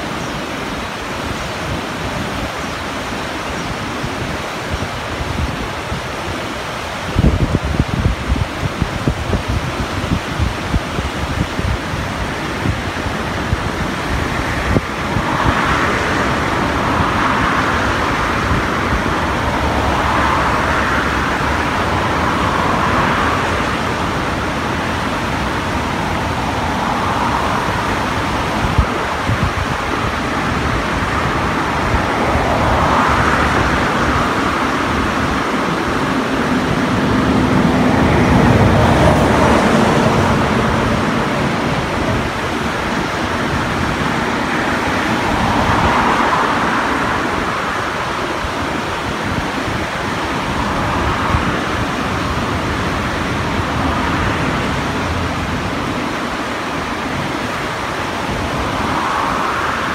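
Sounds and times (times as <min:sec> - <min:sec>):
muddy river rushing: 0:00.0 - 0:59.9.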